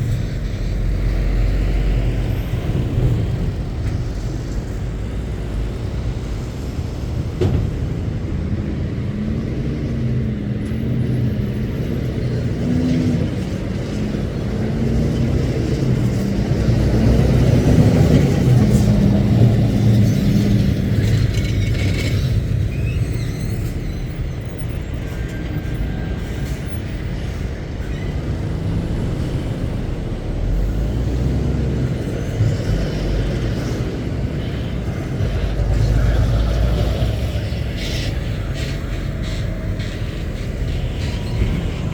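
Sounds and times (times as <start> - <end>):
lorry diesel engines: 0.0 - 41.9
low traffic rumble: 0.0 - 41.9.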